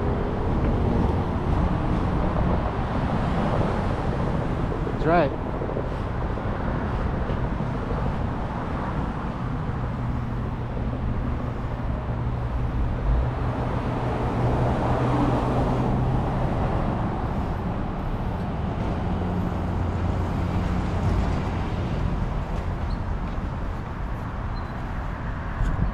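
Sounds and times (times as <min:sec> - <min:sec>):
car engines humming in traffic: 0:00.0 - 0:25.9.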